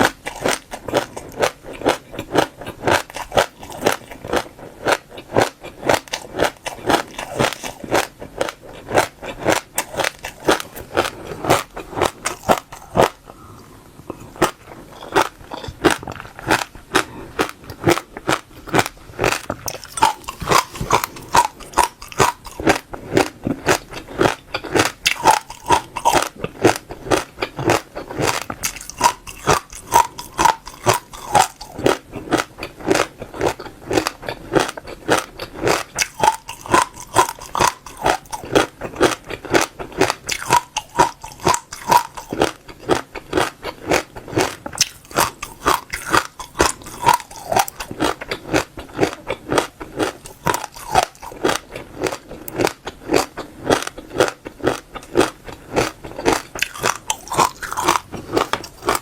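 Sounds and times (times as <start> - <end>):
seeds crunching while chewing: 0.0 - 13.5, 14.1 - 59.0.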